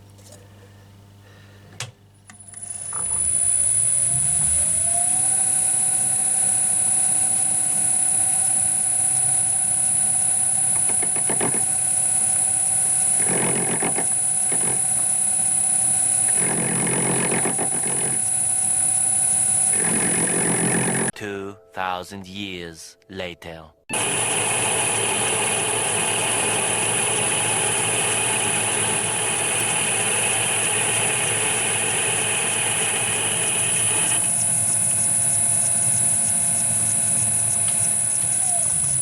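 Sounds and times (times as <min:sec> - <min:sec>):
lathe motor whine: 0:02.3 - 0:21.1, 0:23.9 - 0:39.0
lathe tool rasping cut: 0:02.6 - 0:21.1, 0:23.9 - 0:39.0.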